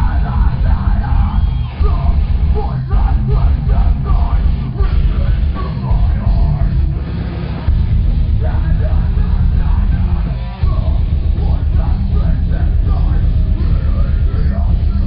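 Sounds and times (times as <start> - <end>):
heavy rock band playing live: 0.0 - 15.0.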